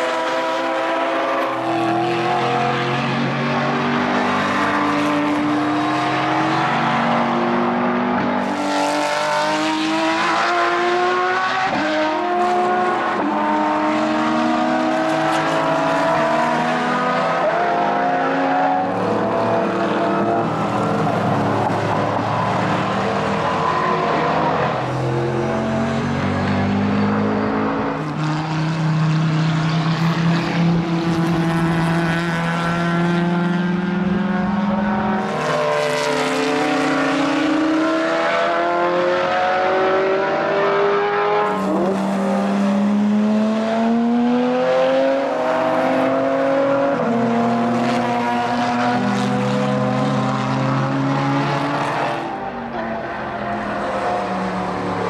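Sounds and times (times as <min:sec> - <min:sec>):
racing car engines accelerating: 0:00.0 - 0:55.0.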